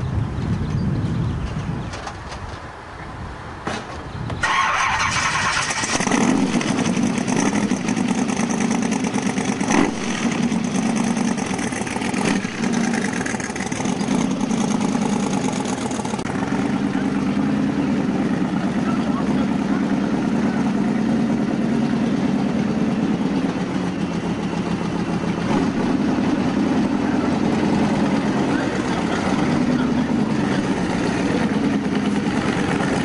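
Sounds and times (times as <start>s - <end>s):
car engine idling: 4.4s - 33.0s.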